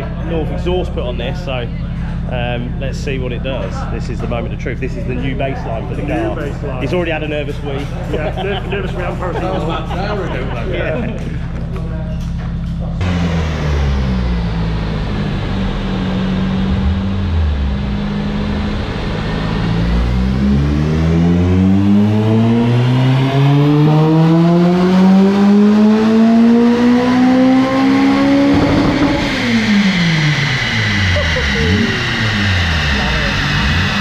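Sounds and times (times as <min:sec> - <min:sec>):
car engine on dyno: 0:00.0 - 0:34.0.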